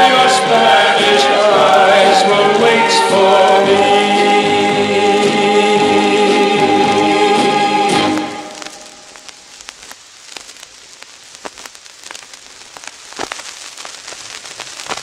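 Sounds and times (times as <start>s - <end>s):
faint hiss: 0.0s - 15.0s
vinyl crackle and pops: 0.0s - 15.0s.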